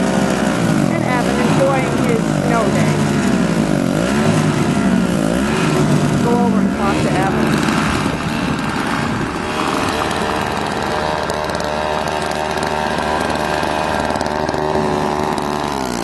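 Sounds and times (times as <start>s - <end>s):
snowblower engine running: 0.0s - 16.0s.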